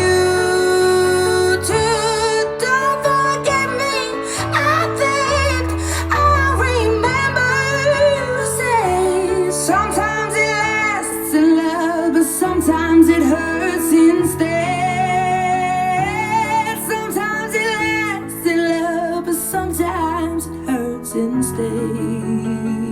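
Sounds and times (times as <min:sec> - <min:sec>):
pop song with woman singing: 0:00.0 - 0:22.9.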